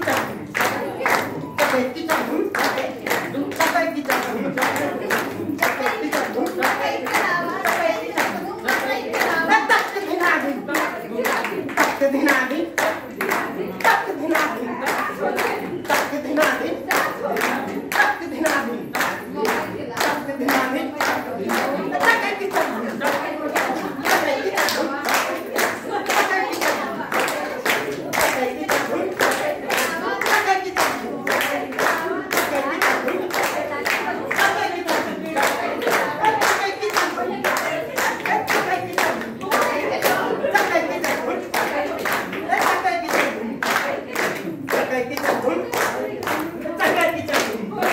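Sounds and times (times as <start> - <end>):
group clapping in time: 0.0 - 47.9
group singing: 0.0 - 47.9.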